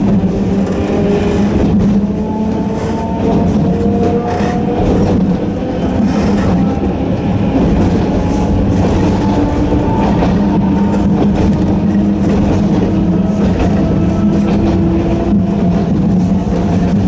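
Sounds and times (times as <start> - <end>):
electric train motors humming: 0.0 - 17.0
train rolling rumble: 0.0 - 17.0.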